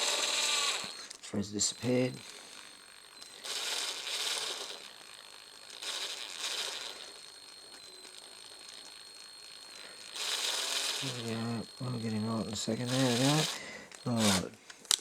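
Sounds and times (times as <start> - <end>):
hand drill ratcheting: 0.0 - 15.0.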